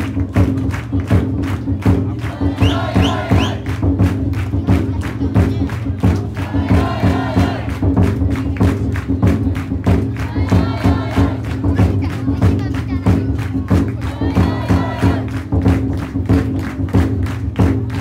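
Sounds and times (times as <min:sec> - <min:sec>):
crowd chanting and shouting: 0:00.0 - 0:16.0
taiko drum beating: 0:00.0 - 0:18.0.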